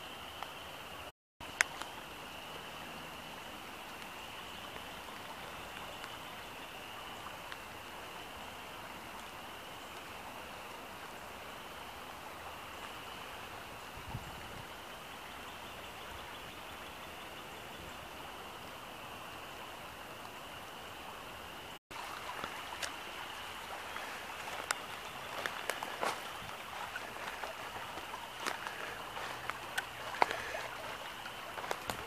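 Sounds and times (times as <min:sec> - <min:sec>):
creek water rushing: 0:00.0 - 0:32.0.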